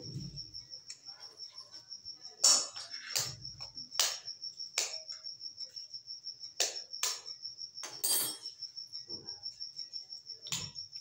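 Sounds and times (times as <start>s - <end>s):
insect chirping trill: 0.0s - 11.0s.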